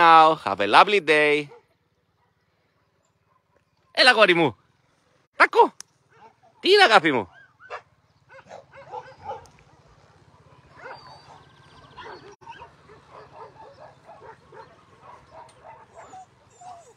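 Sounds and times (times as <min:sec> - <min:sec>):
dogs barking and yipping: 0:01.4 - 0:04.2, 0:06.0 - 0:16.9.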